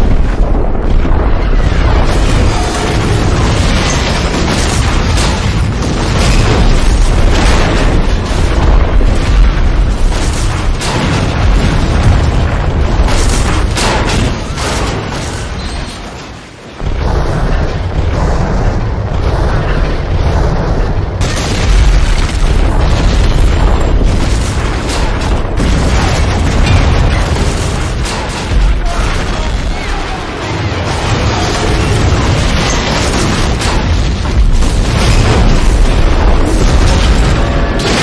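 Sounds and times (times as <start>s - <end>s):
booming explosions: 0.0s - 38.0s.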